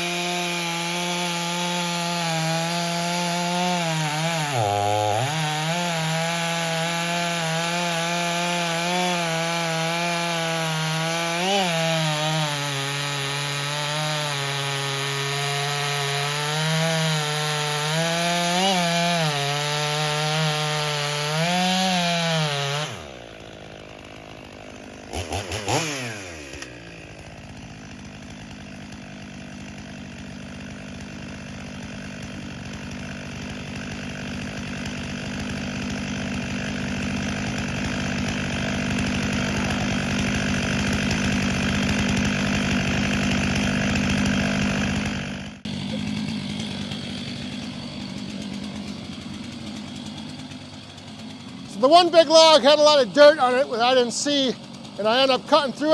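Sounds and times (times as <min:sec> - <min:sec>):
chainsaw cutting a log: 0:00.0 - 0:55.9.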